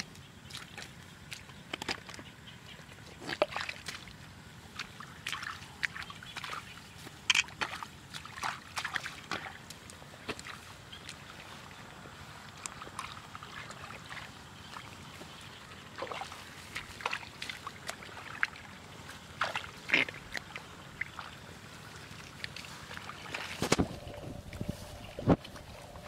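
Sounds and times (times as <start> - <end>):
feet squelching through mud: 0.0 - 26.0.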